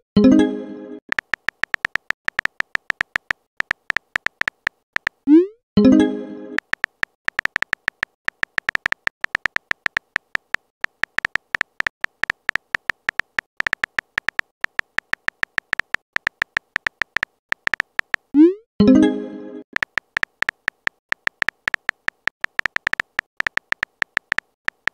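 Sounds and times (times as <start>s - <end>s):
phone keyboard typing clicks: 1.1s - 5.3s, 6.6s - 18.4s, 19.7s - 24.9s.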